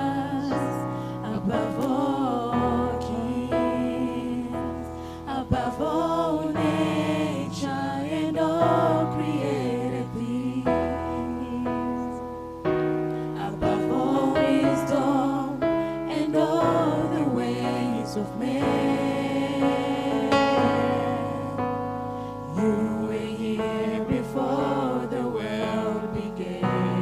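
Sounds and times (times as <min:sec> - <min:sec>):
gospel choir singing: 0:00.0 - 0:27.0
sustained keyboard chords: 0:00.0 - 0:27.0.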